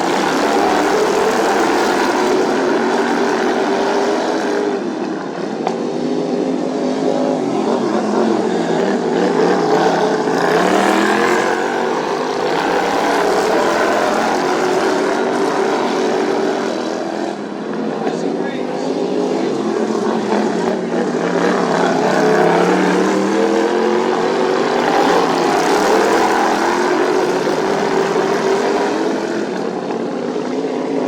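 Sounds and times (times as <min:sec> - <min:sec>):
racing lawnmower engines revving: 0:00.0 - 0:31.0.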